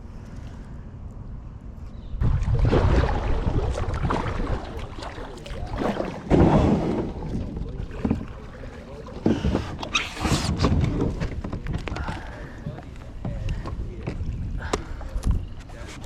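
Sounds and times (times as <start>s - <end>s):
wind rumble on microphone: 0.0s - 16.0s
paddle splashing water: 2.2s - 16.0s.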